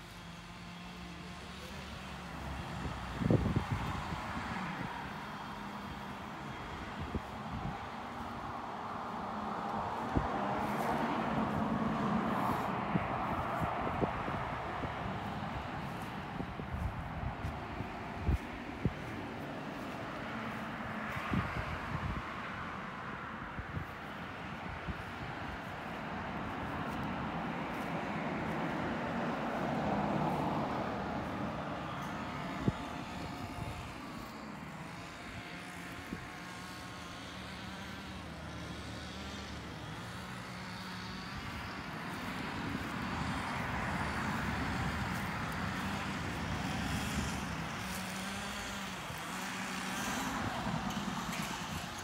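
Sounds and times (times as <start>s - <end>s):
distant engine: 0.0s - 52.0s.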